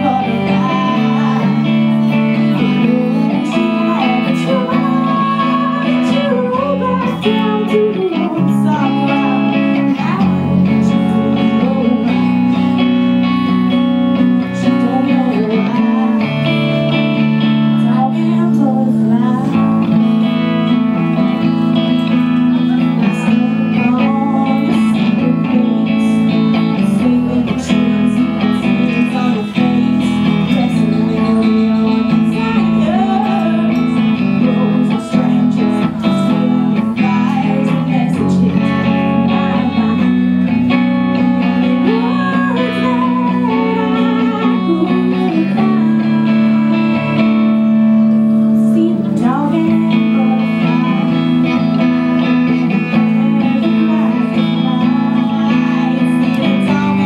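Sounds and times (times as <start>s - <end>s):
electric guitar chords: 0.0s - 57.0s
woman singing: 0.0s - 57.0s.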